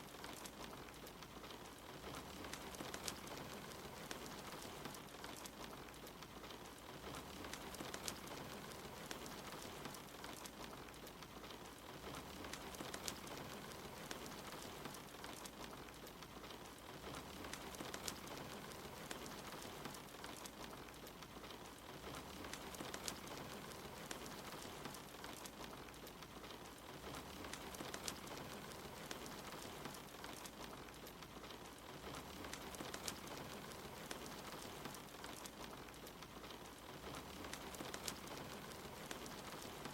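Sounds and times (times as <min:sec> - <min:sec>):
soft rain: 0:00.0 - 0:39.9
wood fire crackling: 0:00.0 - 0:39.9.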